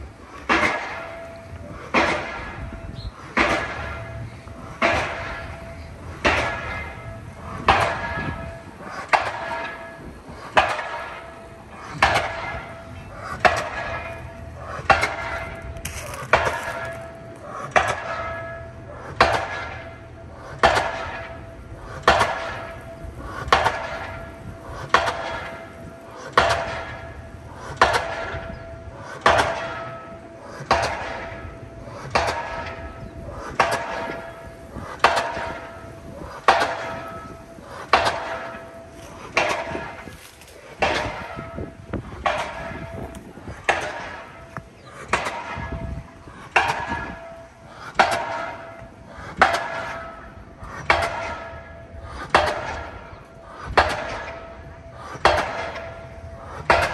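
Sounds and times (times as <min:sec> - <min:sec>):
pile driver hammering steel: 0:00.0 - 0:56.9.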